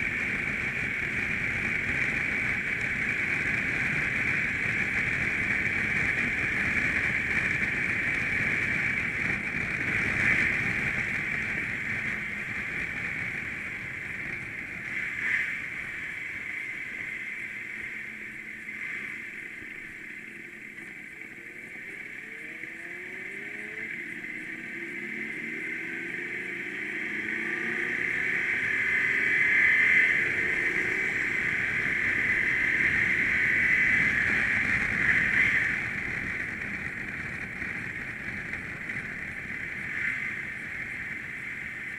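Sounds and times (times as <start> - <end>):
motorcycle engine: 0.0 - 41.9
wind noise: 0.0 - 41.9.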